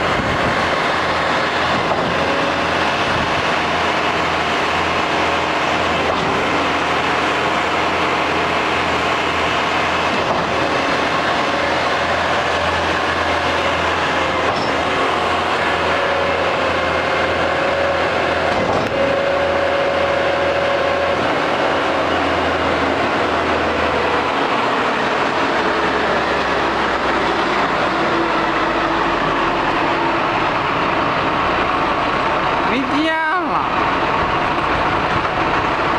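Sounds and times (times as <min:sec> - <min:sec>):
concrete pump running: 0:00.0 - 0:35.9.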